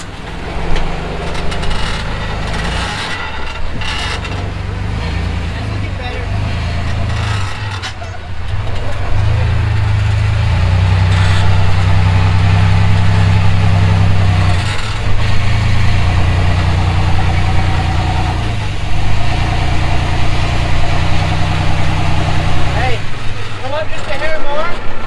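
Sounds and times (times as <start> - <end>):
engine running under load: 0.0 - 25.0.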